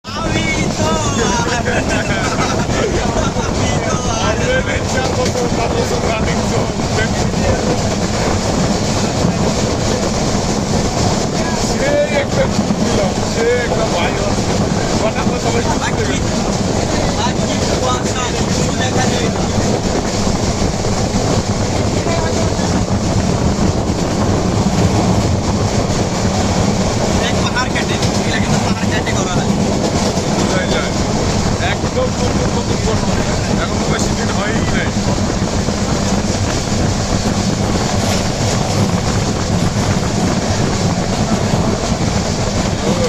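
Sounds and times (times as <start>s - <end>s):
train rumbling on track: 0.0s - 43.0s.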